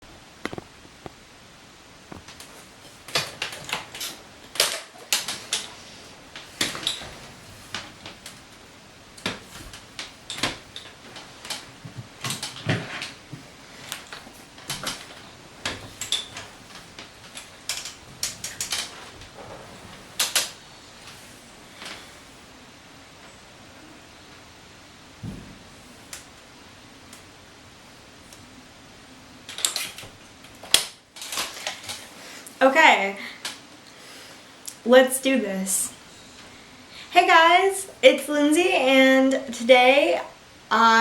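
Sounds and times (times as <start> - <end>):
low steady hiss: 0.0 - 41.0.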